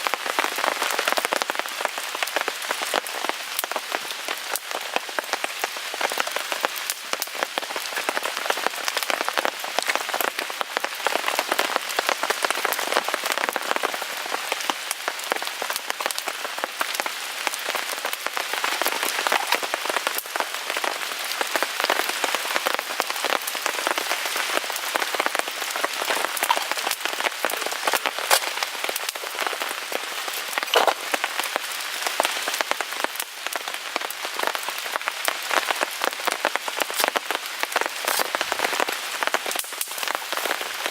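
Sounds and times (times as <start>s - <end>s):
rain pattering on a tarp: 0.0s - 40.9s.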